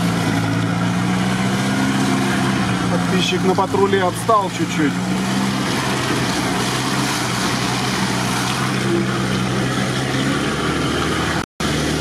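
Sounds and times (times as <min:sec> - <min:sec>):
car engine running at low speed: 0:00.0 - 0:12.0.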